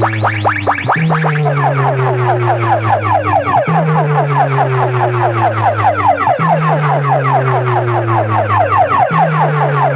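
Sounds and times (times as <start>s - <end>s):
electronic siren effect: 0.0s - 9.9s
low bass drone: 0.0s - 9.9s.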